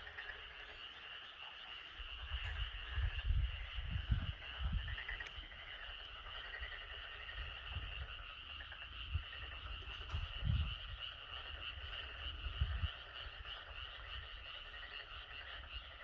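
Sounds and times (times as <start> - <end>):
frogs calling in chorus: 0.0 - 16.0.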